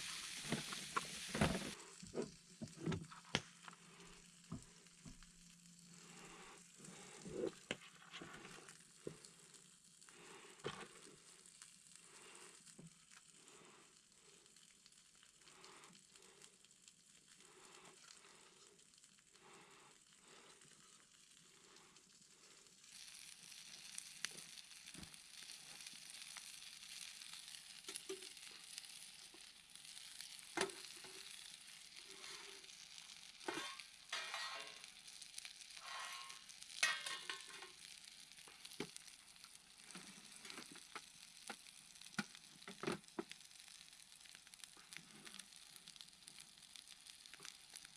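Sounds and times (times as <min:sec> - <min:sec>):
food sizzling over campfire: 0:00.0 - 0:47.9.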